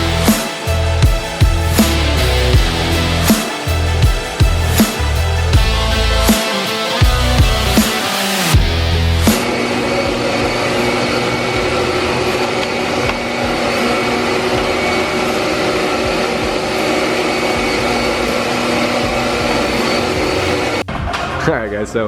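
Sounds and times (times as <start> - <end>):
steady machine drone: 0.0 - 22.0.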